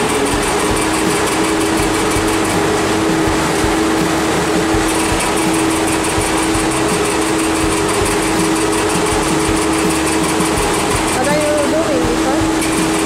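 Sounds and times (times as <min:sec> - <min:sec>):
floor mat vacuum machine hissing: 0:00.0 - 0:13.0.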